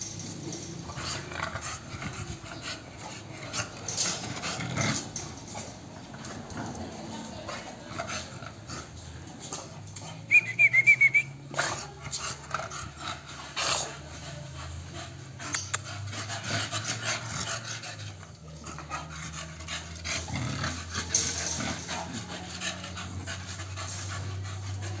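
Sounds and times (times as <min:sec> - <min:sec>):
dogs panting: 0:00.0 - 0:10.4, 0:11.5 - 0:25.0.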